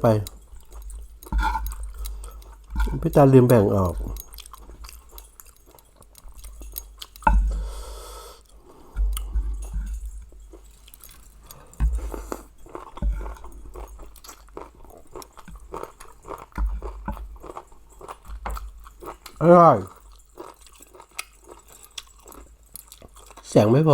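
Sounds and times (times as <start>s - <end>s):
close-up chewing: 0.0s - 23.9s.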